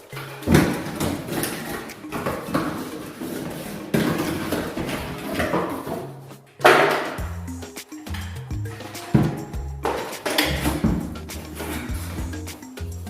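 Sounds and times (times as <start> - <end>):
hard plastic parts clattering: 0.0 - 7.2, 8.7 - 12.2.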